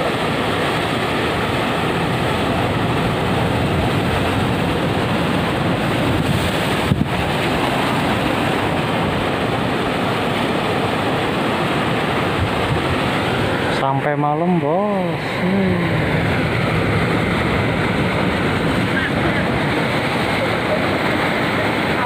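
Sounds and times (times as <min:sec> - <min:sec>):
sea surf breaking on shore: 0:00.0 - 0:22.0
wind rumbling on microphone: 0:00.0 - 0:22.0.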